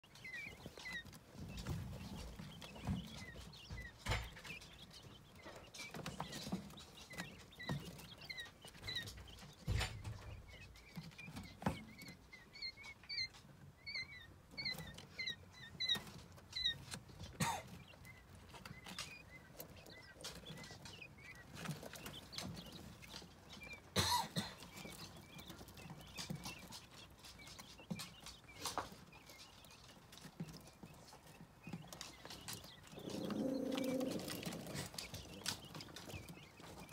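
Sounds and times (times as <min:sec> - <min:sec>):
quail chicks peeping: 0:00.0 - 0:36.9.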